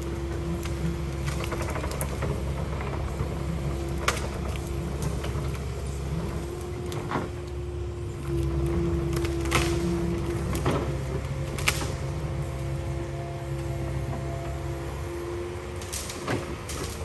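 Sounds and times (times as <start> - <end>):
excavator diesel engine running: 0.0 - 17.0
hydraulic whine: 0.0 - 17.0.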